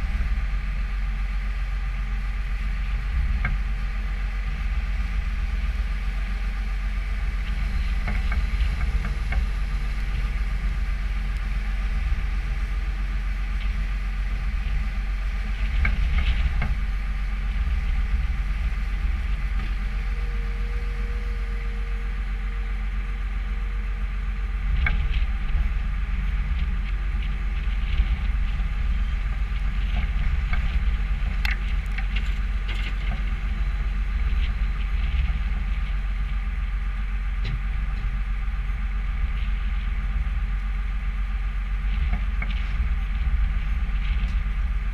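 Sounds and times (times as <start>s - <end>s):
skid steer engine running: 0.0s - 44.9s.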